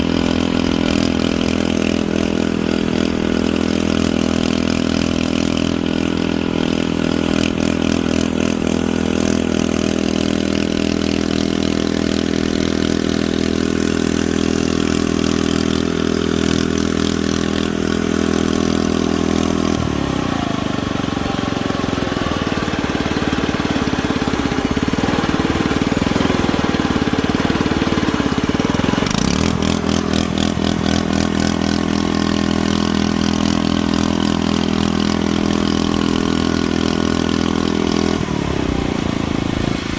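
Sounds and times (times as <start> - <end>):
model bulldozer engine: 0.0 - 39.9.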